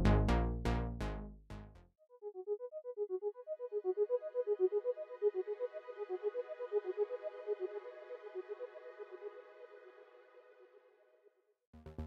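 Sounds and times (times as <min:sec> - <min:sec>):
synthesizer repeating soft notes: 0:00.0 - 0:10.3, 0:11.8 - 0:12.0.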